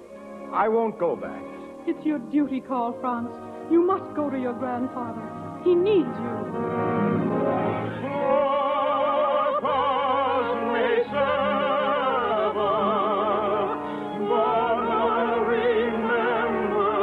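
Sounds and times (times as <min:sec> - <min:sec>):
orchestral accompaniment: 0:00.0 - 0:17.0
operatic singing with vibrato: 0:00.2 - 0:17.0.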